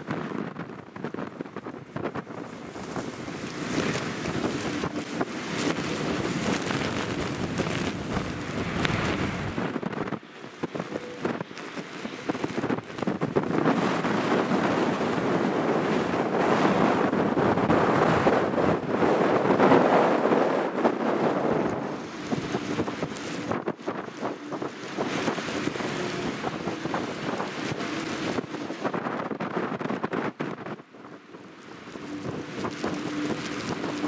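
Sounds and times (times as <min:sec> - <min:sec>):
jet engine noise: 0:00.0 - 0:34.0
wind buffeting microphone: 0:00.0 - 0:34.0.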